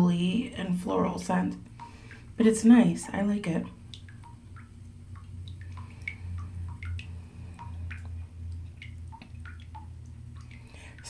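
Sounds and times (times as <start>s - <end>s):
low hum: 0.0s - 11.0s
faucet dripping into water: 0.3s - 11.0s.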